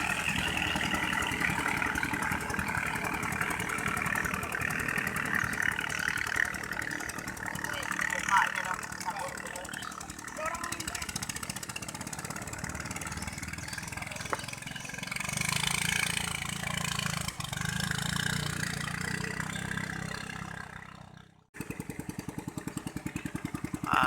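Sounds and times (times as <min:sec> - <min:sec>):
canoe engine running: 0:00.0 - 0:24.0
engine puttering: 0:00.0 - 0:24.0.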